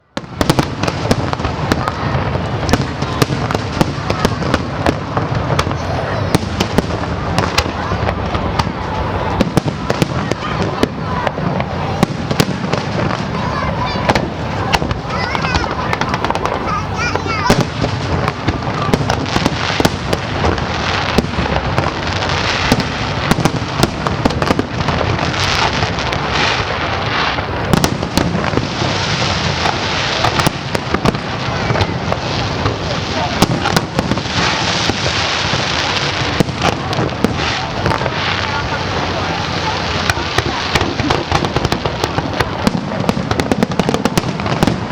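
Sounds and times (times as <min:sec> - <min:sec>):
fireworks bursting and cracking: 0:00.0 - 0:44.9.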